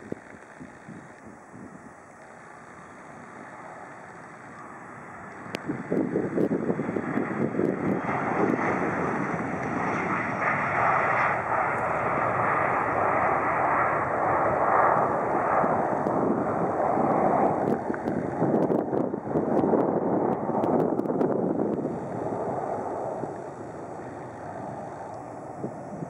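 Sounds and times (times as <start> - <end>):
jet engines at takeoff power: 0.0 - 26.0.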